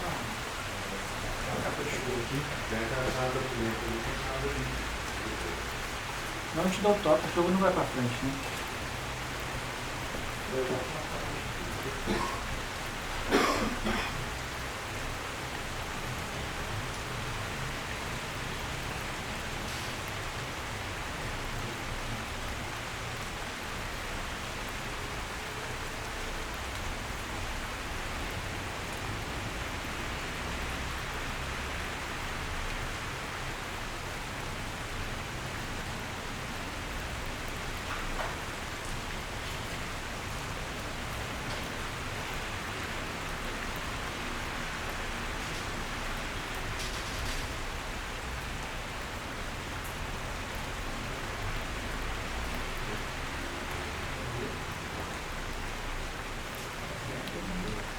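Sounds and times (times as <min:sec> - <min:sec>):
rain pattering on a window: 0:00.0 - 0:57.9.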